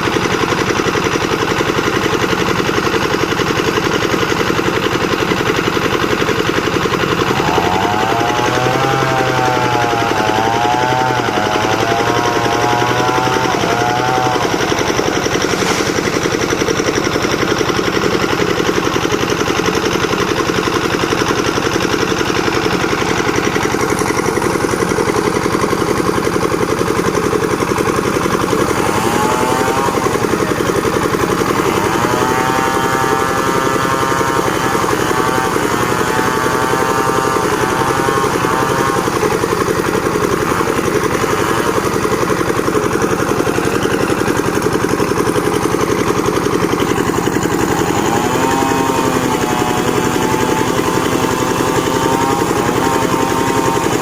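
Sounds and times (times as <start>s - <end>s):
machine engine whine: 0.0s - 54.0s.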